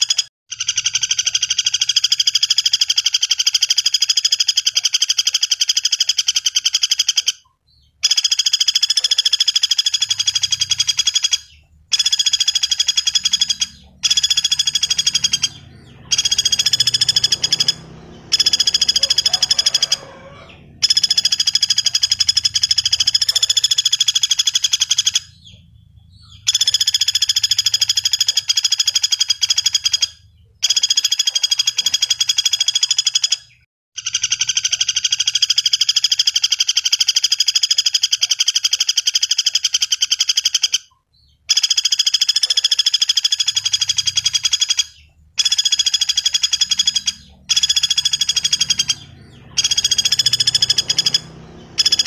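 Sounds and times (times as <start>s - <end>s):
bird song with rapid high trills: 0.0s - 52.0s.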